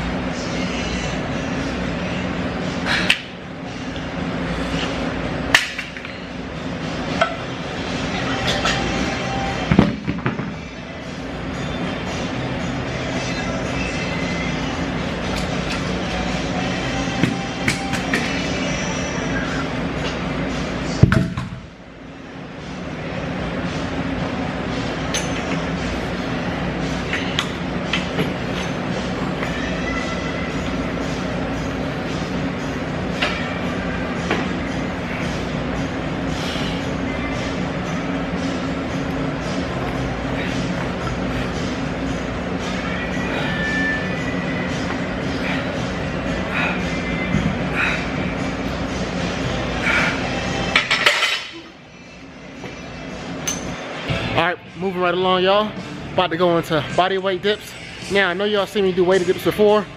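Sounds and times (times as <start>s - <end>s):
gym background noise: 0.0s - 59.9s.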